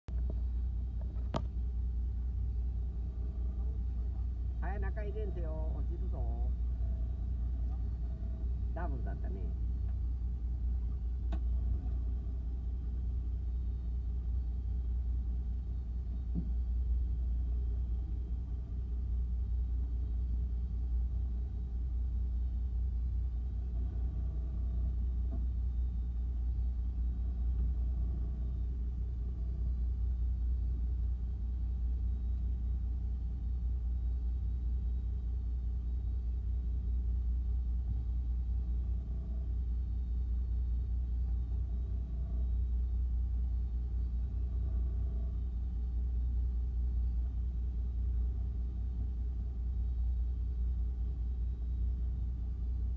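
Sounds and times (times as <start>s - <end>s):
boat engine idling: 0.1s - 52.9s.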